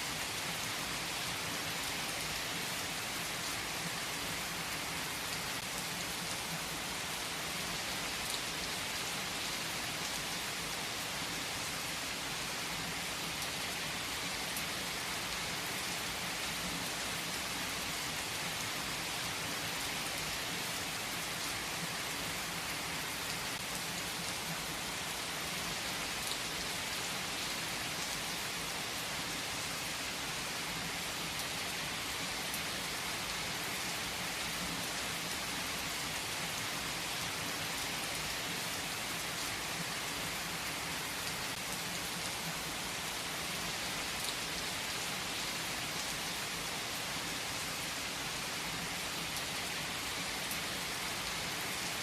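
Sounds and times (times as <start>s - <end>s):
rain hiss: 0.0s - 52.0s.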